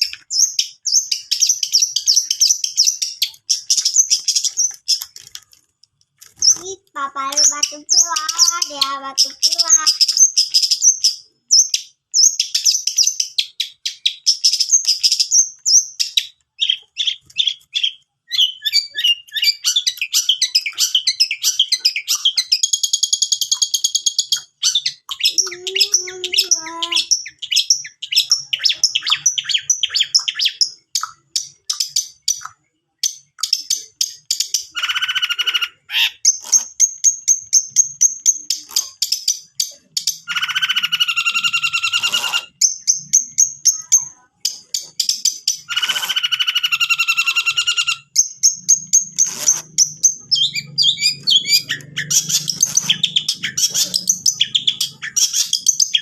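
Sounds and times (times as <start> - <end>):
shrike singing chattering song: 0.0 - 5.2, 6.4 - 32.4, 33.1 - 56.0.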